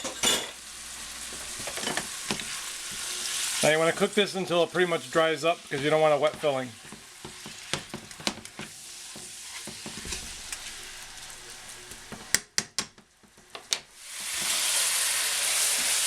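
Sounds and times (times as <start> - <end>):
food sizzling in a frying pan: 0.0 - 12.5, 13.1 - 16.0.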